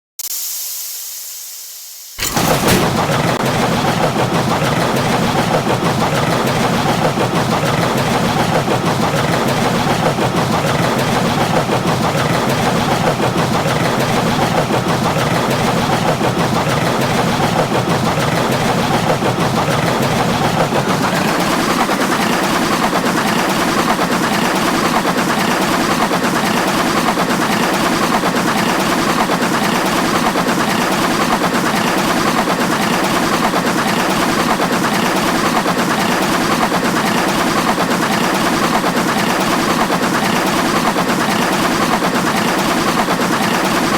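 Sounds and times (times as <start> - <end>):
roller coaster clattering on track: 2.2 - 43.9.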